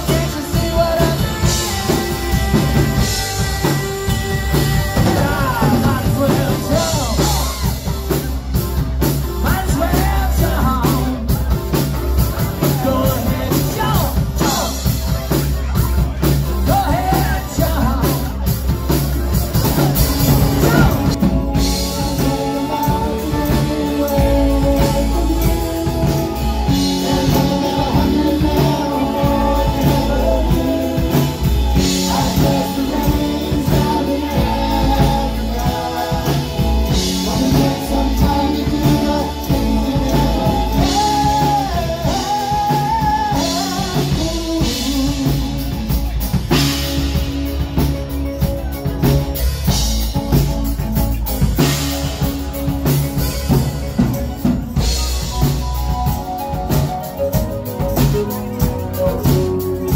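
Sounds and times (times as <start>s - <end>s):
man singing lead vocal: 0.0s - 49.2s
drum kit: 0.0s - 59.9s
electric guitar: 0.0s - 59.9s.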